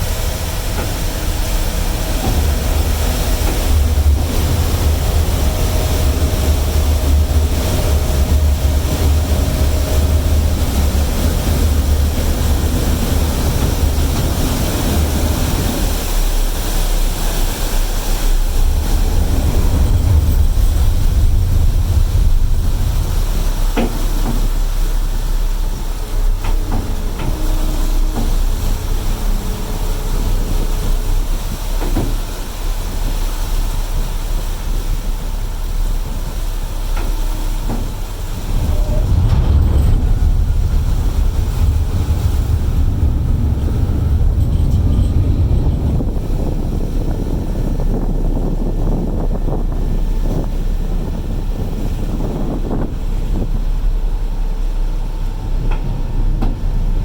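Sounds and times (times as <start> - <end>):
ferry engines rumbling: 0.0 - 57.0
wind buffeting microphone: 0.0 - 57.0.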